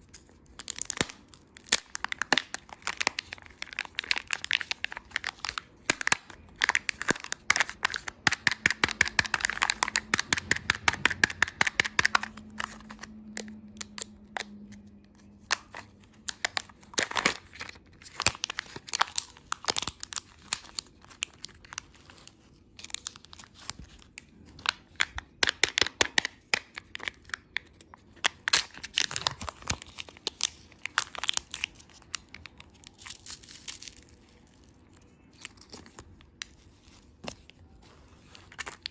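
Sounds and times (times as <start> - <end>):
plastic packaging crinkling: 0.0 - 38.9.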